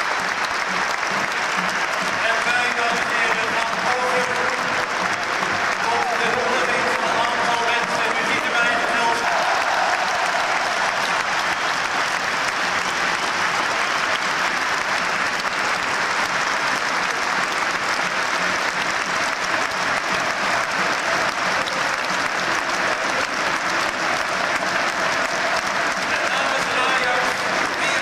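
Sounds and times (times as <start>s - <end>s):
stadium crowd applauding: 0.0s - 28.0s.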